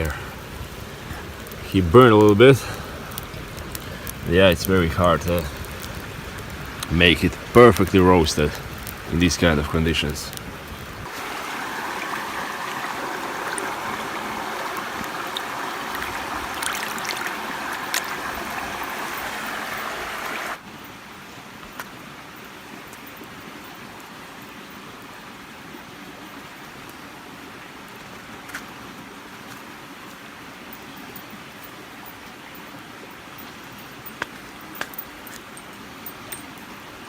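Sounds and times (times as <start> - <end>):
campfire crackling: 0.0 - 20.6, 27.9 - 37.0
river water flowing: 0.0 - 37.0.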